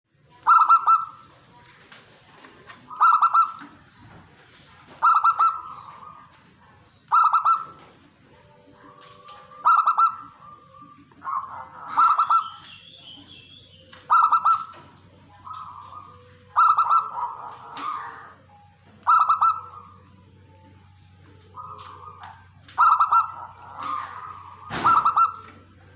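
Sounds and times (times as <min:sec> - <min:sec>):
dove cooing: 0:00.4 - 0:01.6, 0:02.7 - 0:25.9.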